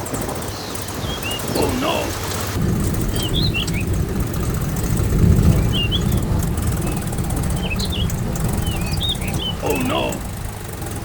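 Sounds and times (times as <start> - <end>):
birds twittering: 0.0 - 11.0
small engine chugging: 0.0 - 11.0.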